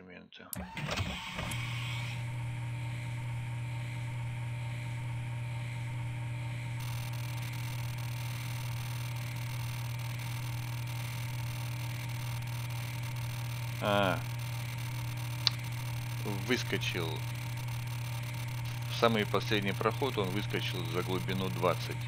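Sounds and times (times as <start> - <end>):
machine spindle hum: 0.6 - 22.0.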